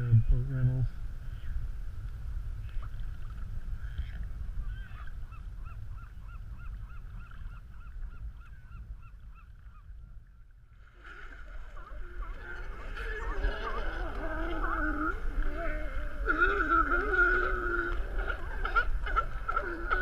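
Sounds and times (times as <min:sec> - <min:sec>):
low rumble of wind and water: 0:00.0 - 0:20.0.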